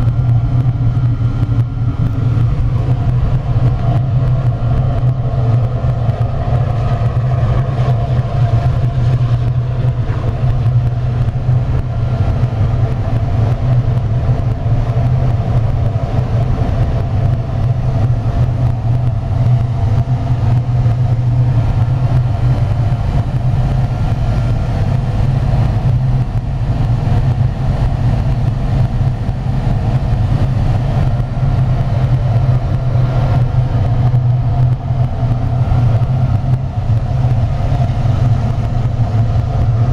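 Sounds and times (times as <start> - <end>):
furnace flame rumbling: 0.0 - 39.9.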